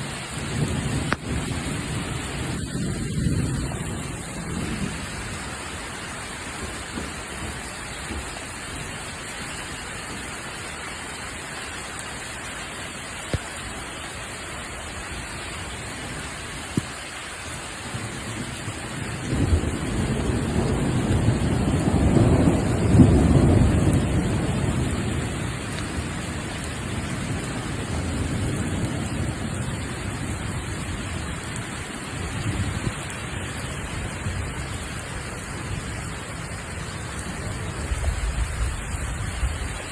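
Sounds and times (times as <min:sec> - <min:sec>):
thunder rumbling: 0:00.0 - 0:12.2, 0:13.2 - 0:39.9
heavy rain pouring: 0:00.0 - 0:39.9.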